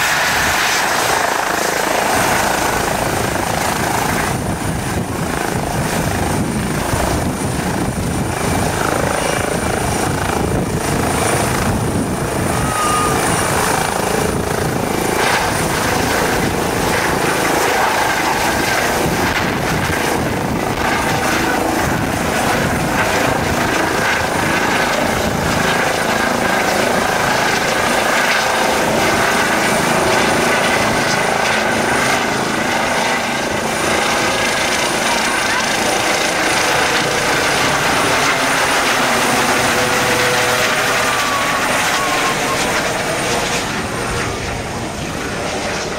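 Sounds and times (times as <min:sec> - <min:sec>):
helicopter rotor and turbine whine: 0:00.0 - 0:45.9.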